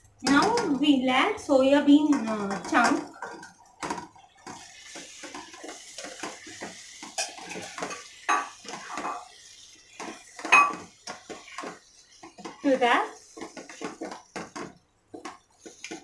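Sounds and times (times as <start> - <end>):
spatula scraping and knocking pot: 0.2 - 0.9, 1.9 - 16.0.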